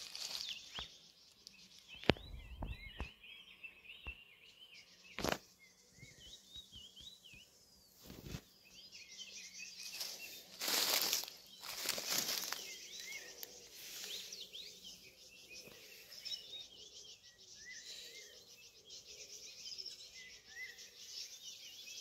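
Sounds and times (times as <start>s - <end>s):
small bird chirping: 0.0s - 22.0s.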